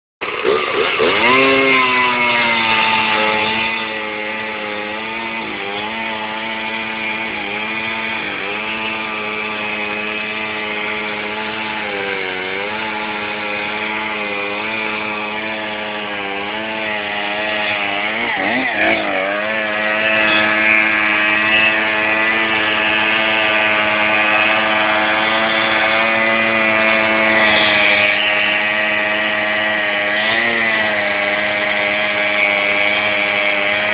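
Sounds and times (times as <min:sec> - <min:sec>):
small petrol engine revving: 0:00.2 - 0:33.9.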